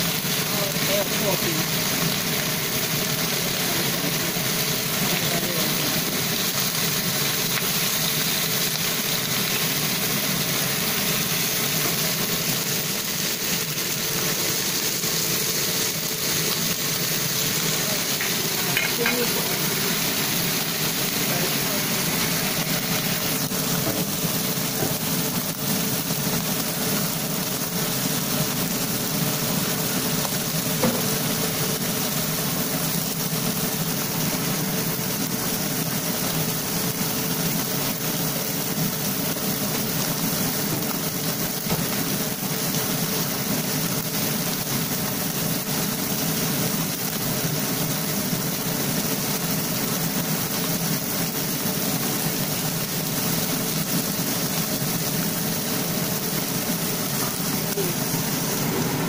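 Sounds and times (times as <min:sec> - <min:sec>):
fish sizzling in hot oil: 0:00.0 - 0:59.0.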